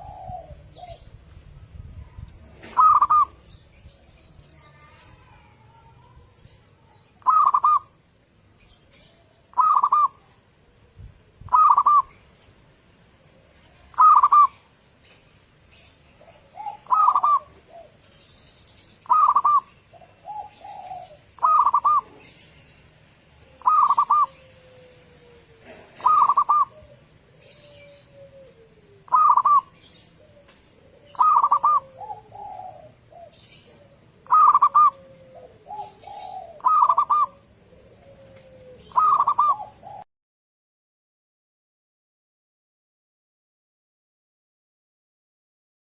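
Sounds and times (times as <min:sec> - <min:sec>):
dove cooing: 0:00.0 - 0:08.0, 0:08.6 - 0:12.5, 0:13.1 - 0:22.7, 0:23.3 - 0:40.1
dove calling: 0:00.0 - 0:40.1
small birds chirping: 0:00.0 - 0:40.1.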